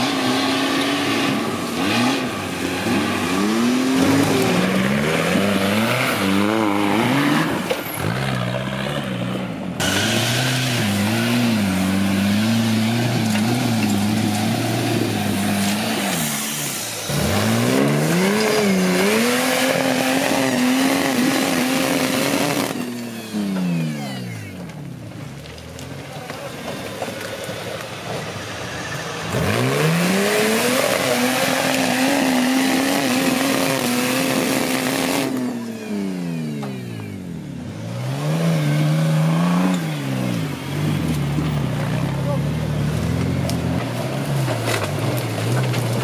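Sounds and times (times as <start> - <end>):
buggy engine revving: 0.0 - 46.0.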